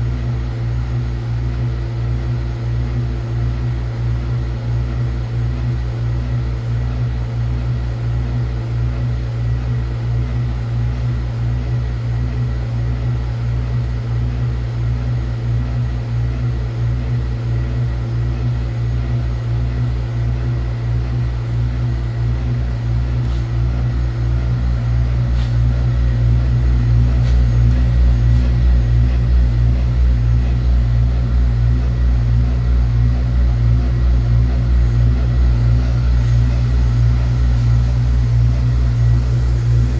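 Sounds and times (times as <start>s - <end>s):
washing machine humming and pulsing: 0.0s - 39.9s.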